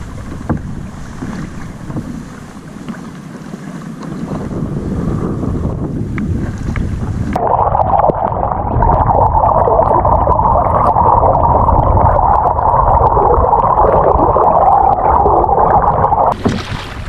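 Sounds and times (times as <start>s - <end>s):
underwater rushing and gurgling: 0.0s - 17.0s.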